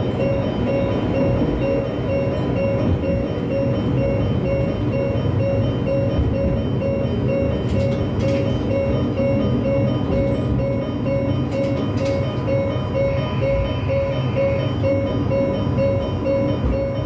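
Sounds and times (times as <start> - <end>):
diesel railcar rumbling: 0.0 - 17.0
repeating beep: 0.2 - 17.0.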